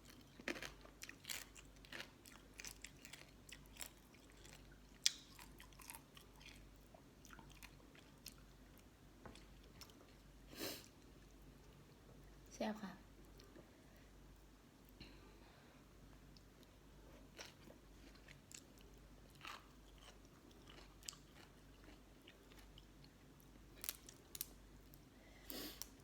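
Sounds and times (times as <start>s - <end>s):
person chewing crunchy food: 0.0s - 11.8s, 16.3s - 26.0s.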